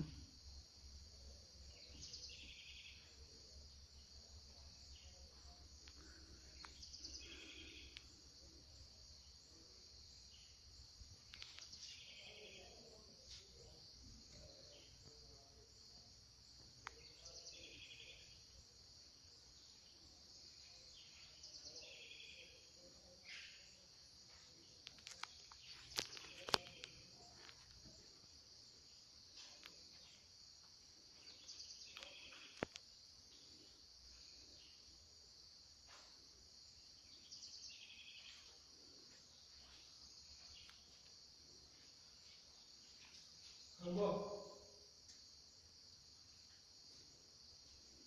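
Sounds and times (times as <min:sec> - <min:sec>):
chorus of insects: 0:00.0 - 0:48.0.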